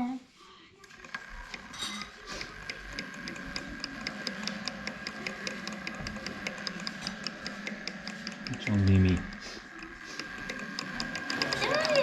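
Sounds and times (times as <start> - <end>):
regular clicking from motor: 0.8 - 12.0
electric motor whine: 0.9 - 12.0.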